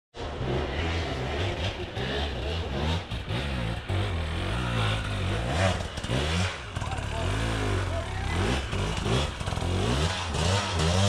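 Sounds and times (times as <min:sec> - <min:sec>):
motorcycle engine revving: 0:00.2 - 0:11.0.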